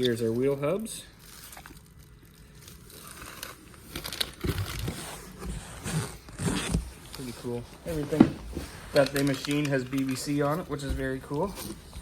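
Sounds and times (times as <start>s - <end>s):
packing wrap crinkling: 0.7s - 8.1s, 8.8s - 12.0s.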